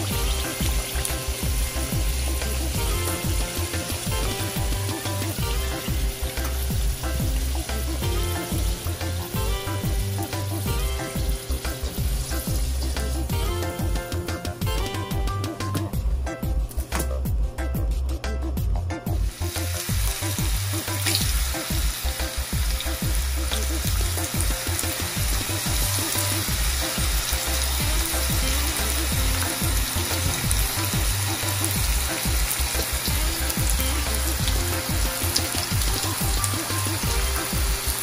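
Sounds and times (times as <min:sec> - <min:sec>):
food frying in hot oil: 0:00.0 - 0:15.3, 0:19.1 - 0:38.0.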